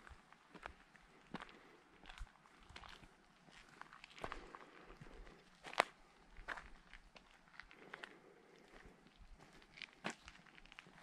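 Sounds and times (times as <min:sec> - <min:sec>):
footsteps on a trail: 0:00.0 - 0:11.0.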